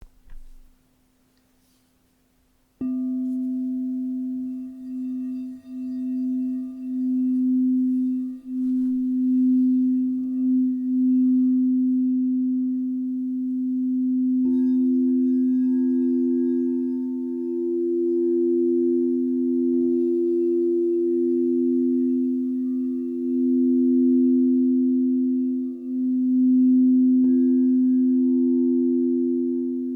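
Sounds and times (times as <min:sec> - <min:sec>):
higher singing bowl ringing: 0:02.8 - 0:29.2
low singing bowl ringing: 0:02.8 - 0:29.9.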